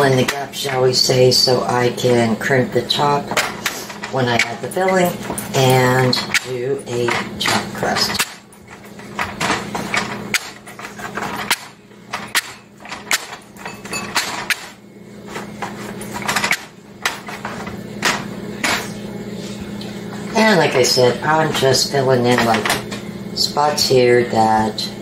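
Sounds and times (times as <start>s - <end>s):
rolling pin rolling dough: 0.0s - 23.1s.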